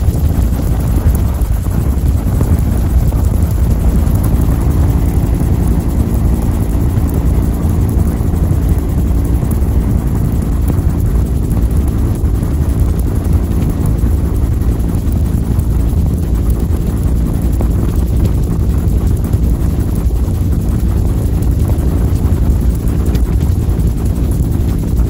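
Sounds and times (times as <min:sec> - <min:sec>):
helicopter turbine and rotor drone: 0:00.0 - 0:25.0.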